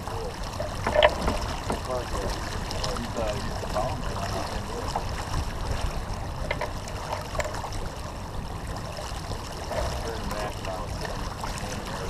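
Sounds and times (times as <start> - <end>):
low rumble: 0.0 - 12.0
water rushing along hull: 0.0 - 12.0.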